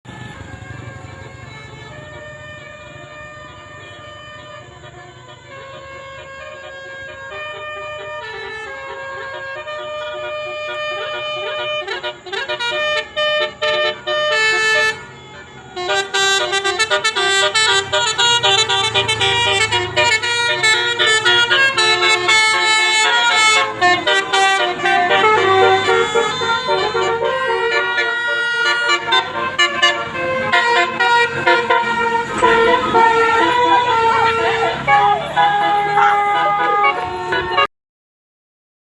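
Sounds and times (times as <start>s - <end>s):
multi-tone bus horn melody: 0.1s - 37.7s.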